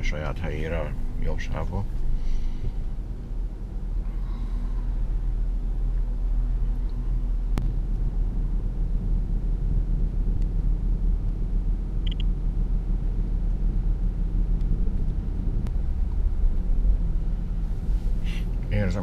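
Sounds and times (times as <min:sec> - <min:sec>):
road and tyre rumble in car: 0:00.0 - 0:19.0.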